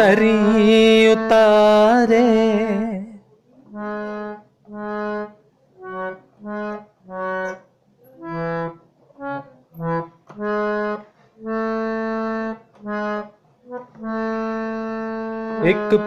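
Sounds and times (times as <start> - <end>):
harmonium melody: 0.0 - 16.0.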